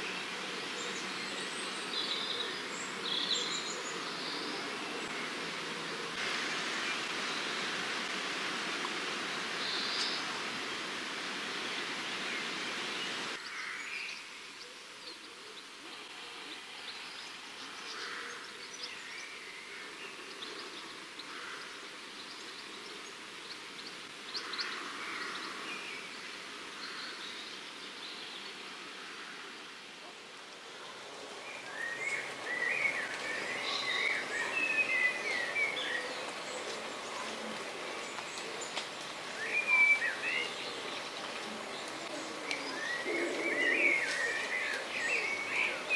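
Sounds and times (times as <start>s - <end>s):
outdoor background hiss: 0.0s - 45.9s
songbirds chirping and twittering: 0.0s - 45.9s.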